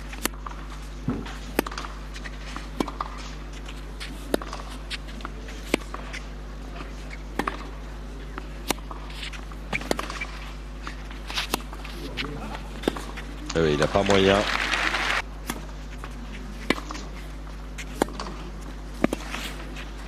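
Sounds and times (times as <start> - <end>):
racket hitting tennis ball: 0.0 - 13.3, 16.5 - 20.0
steady low hum: 0.0 - 20.0.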